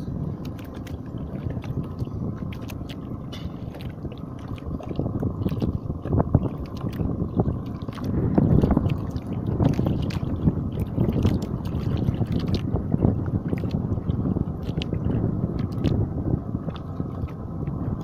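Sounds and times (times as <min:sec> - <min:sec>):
water lapping around boat: 0:00.0 - 0:18.0
wind buffeting microphone: 0:00.0 - 0:18.0.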